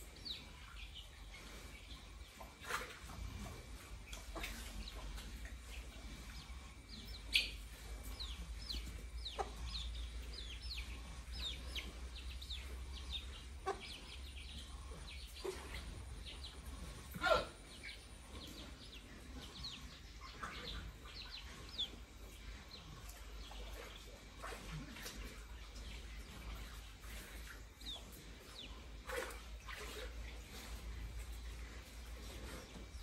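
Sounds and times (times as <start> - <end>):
birds chirping: 0.0 - 33.0
low steady hum: 0.0 - 33.0.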